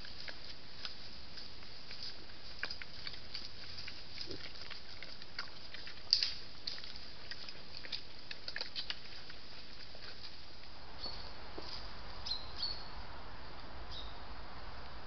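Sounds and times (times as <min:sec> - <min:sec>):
leaves and twigs rustling: 0:00.0 - 0:15.0.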